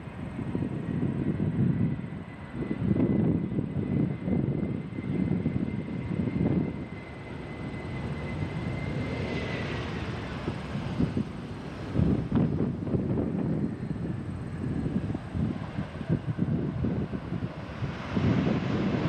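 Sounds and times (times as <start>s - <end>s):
jet airliner engines rumbling: 0.0s - 19.0s.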